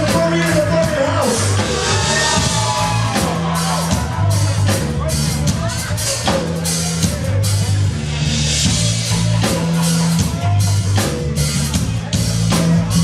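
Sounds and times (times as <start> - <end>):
bass notes: 0.0 - 13.0
drum kit with cymbal crashes: 0.0 - 13.0.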